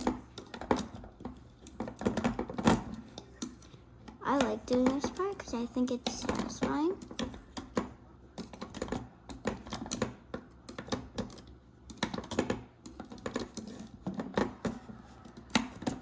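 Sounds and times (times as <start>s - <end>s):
plastic clicks and taps: 0.0s - 16.0s.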